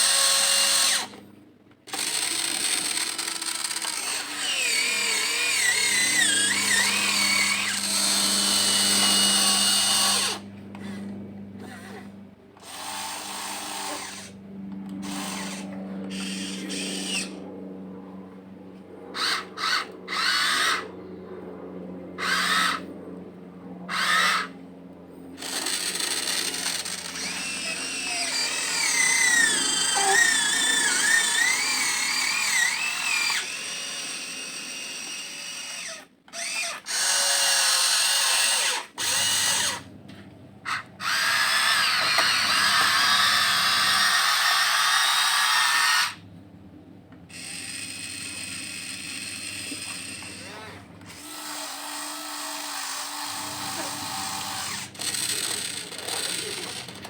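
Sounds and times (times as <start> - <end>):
electric motors whining: 0.0 - 46.3, 47.1 - 57.0.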